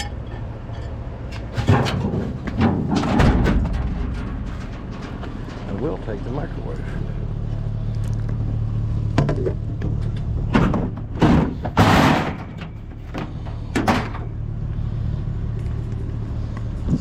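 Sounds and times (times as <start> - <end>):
scrap thumping and clunking: 0.0 - 14.4
vehicle engine idling: 0.0 - 17.0.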